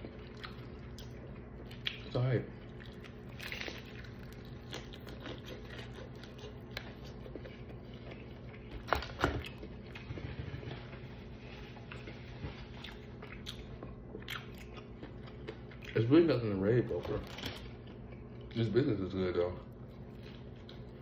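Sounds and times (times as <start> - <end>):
person chewing crispy chicken: 0.0 - 16.1, 16.9 - 18.7, 19.6 - 21.0
steady low hum: 0.0 - 21.0.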